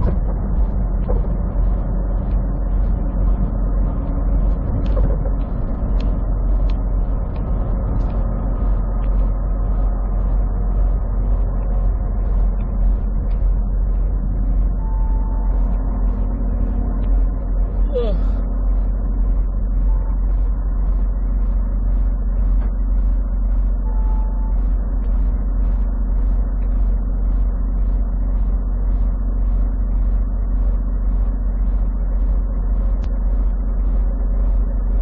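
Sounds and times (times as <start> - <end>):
truck diesel engine and road noise: 0.0 - 35.0.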